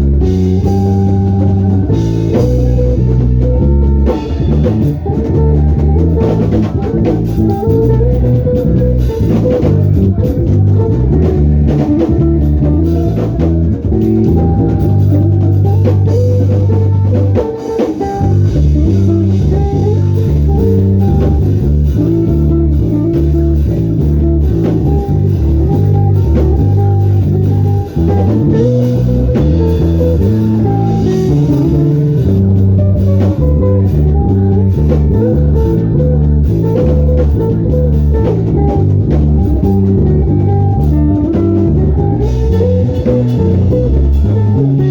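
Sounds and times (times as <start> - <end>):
band music: 0.0 - 44.9
electric bass line: 0.0 - 44.9.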